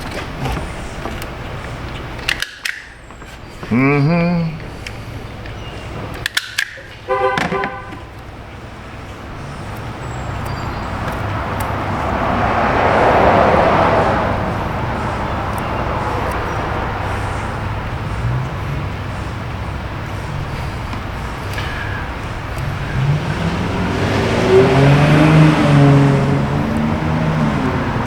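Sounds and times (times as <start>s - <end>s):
road vehicle passing: 0.0s - 28.0s.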